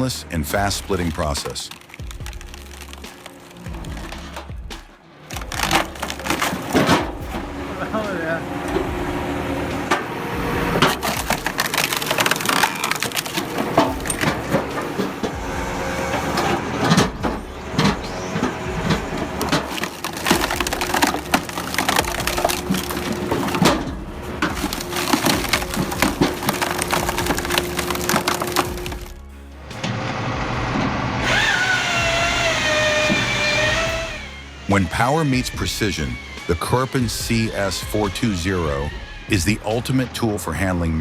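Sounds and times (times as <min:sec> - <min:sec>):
wood cracking and splintering: 0:00.0 - 0:41.0
steady hydraulic hum: 0:04.0 - 0:26.6, 0:27.2 - 0:40.4.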